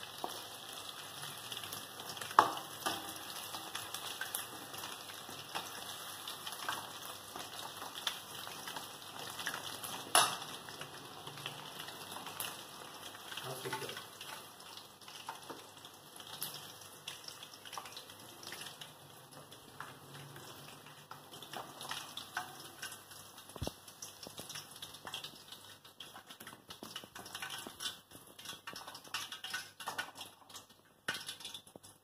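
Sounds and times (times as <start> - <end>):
oil crackling and popping: 0.0 - 32.0.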